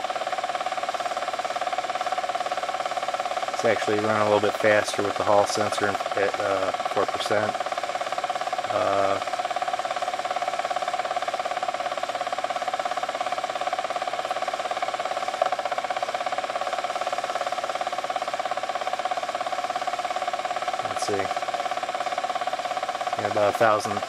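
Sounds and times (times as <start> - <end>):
pulse motor buzzing whine: 0.0 - 24.0.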